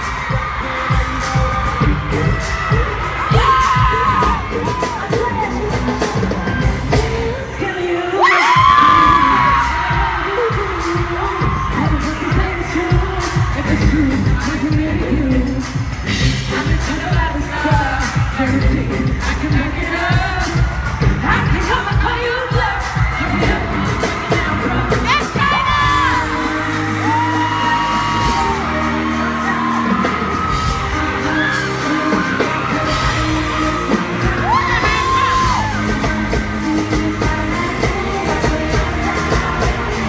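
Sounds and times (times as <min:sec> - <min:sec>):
amplified band with bass beat: 0:00.0 - 0:40.0
audience yelling and whooping: 0:00.0 - 0:40.0
women singing: 0:00.0 - 0:40.0.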